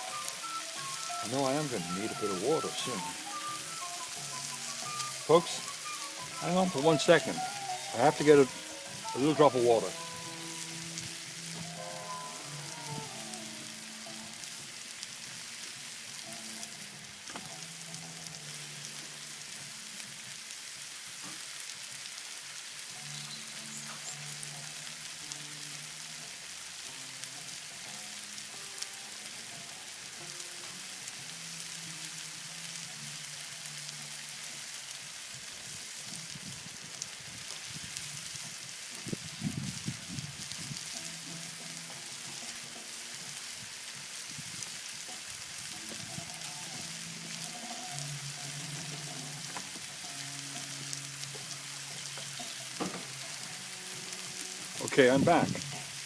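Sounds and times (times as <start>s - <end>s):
curry sizzling in a skillet: 0.0s - 56.0s.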